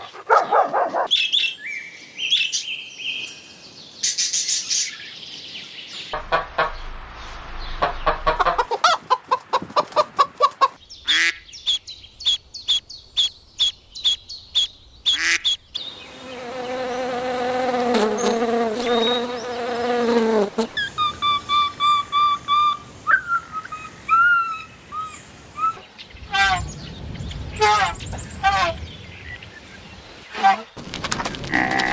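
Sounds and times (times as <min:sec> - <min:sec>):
bird calls and chirps: 0:00.0 - 0:17.3, 0:18.0 - 0:20.1, 0:20.8 - 0:31.0.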